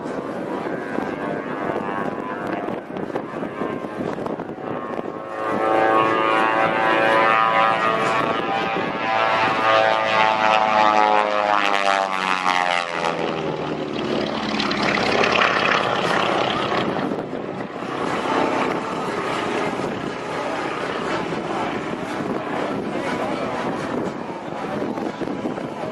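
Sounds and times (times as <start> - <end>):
propeller plane engines roaring: 0.0 - 25.9.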